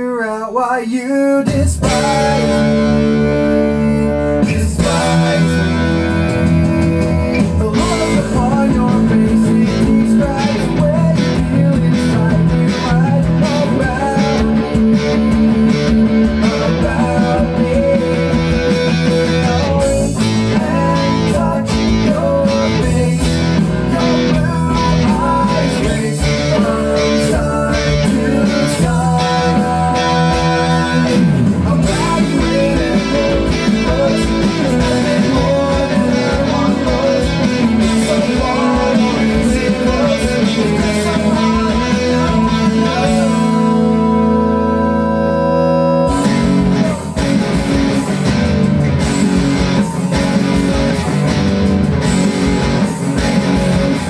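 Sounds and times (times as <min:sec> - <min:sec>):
lead electric guitar: 0:01.4 - 0:54.0
rock band music: 0:01.4 - 0:54.0
drum beat: 0:01.5 - 0:03.5, 0:04.4 - 0:43.6, 0:46.1 - 0:54.0.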